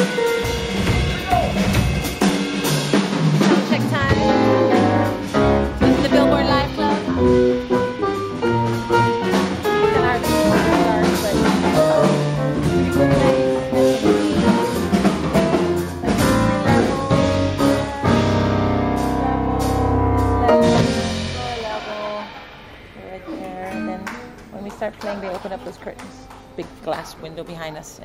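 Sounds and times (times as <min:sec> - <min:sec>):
live band playing: 0:00.0 - 0:27.0
drums: 0:00.0 - 0:27.6.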